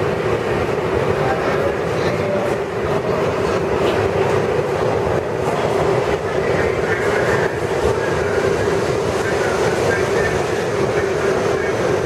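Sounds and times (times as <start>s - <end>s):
subway train hum and rumble: 0.0s - 12.0s.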